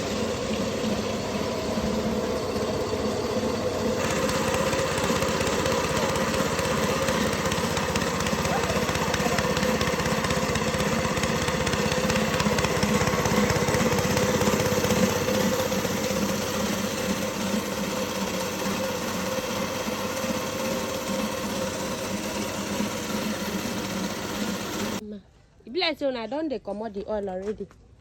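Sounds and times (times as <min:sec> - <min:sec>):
small engine chugging: 0:00.0 - 0:25.0.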